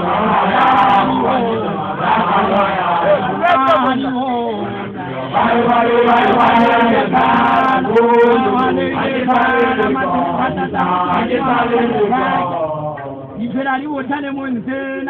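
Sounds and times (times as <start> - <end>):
men chanting held notes: 0.0 - 15.0.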